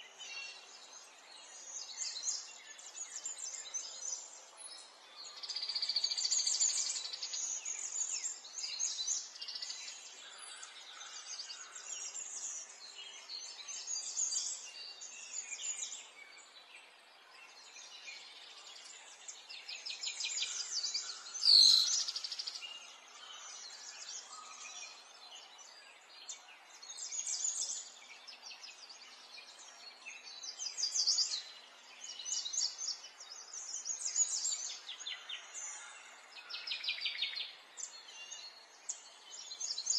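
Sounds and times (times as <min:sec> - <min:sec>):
small birds singing and trilling: 0:00.0 - 0:39.9.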